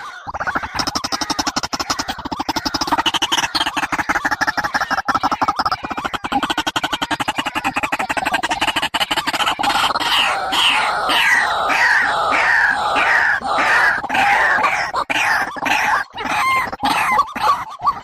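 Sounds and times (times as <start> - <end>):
recorded bird calls: 0.0 - 18.0.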